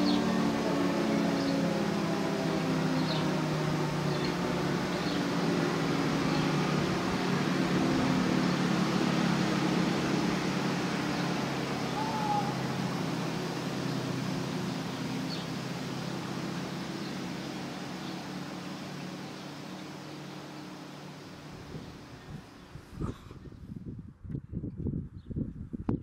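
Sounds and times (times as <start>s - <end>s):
warning siren winding down: 0.0s - 22.9s
birds chirping faintly: 0.0s - 23.1s.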